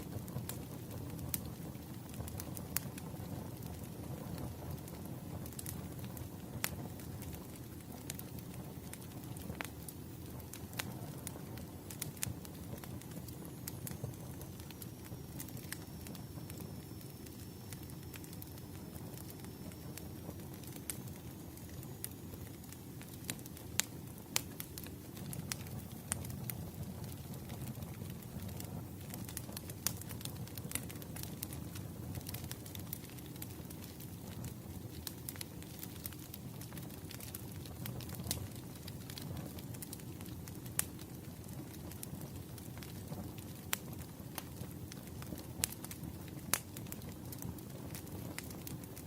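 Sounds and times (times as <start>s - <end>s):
burning logs crackling and popping: 0.0s - 49.0s
fire rumbling: 0.0s - 49.0s.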